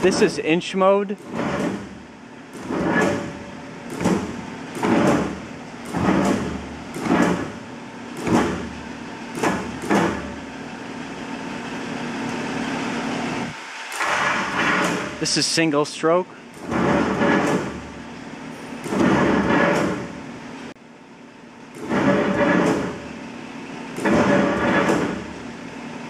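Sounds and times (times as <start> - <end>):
low drive hum: 0.0 - 26.0.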